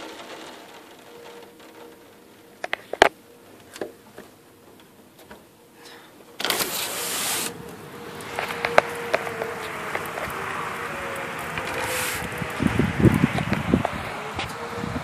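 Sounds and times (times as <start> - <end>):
rain and wind: 0.0 - 3.8, 6.4 - 15.0.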